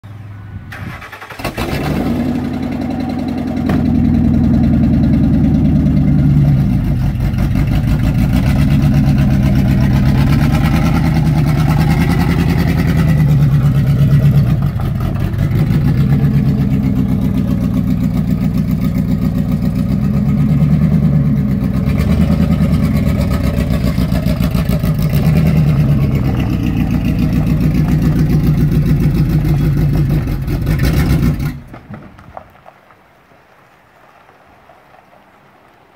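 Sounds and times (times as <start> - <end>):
pickup truck engine revving: 0.8 - 31.8.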